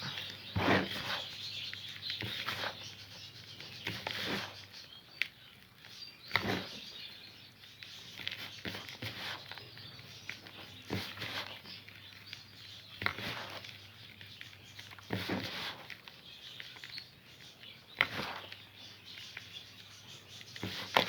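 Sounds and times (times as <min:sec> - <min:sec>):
crumbly food being mixed: 0:00.0 - 0:21.0.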